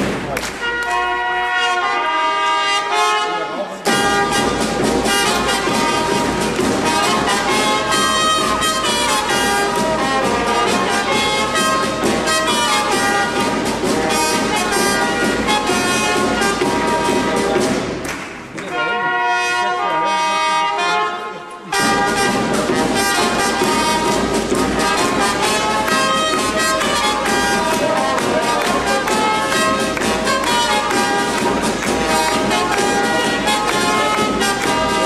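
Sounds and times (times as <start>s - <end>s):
drum beating time: 0.0s - 2.2s, 3.8s - 20.9s, 21.5s - 35.0s
brass band playing: 0.0s - 35.0s.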